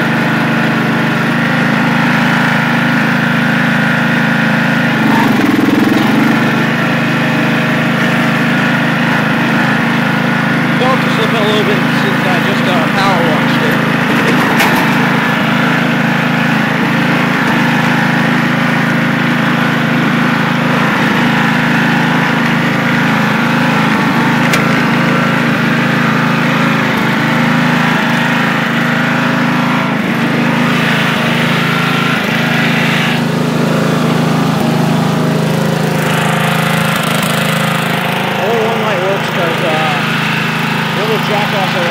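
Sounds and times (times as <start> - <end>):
lawn tractor engine running: 0.0 - 41.9.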